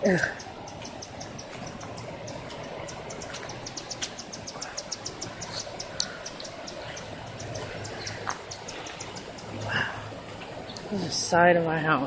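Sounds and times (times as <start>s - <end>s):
insect chirping: 0.0s - 11.0s
floodwater rushing: 0.0s - 12.0s.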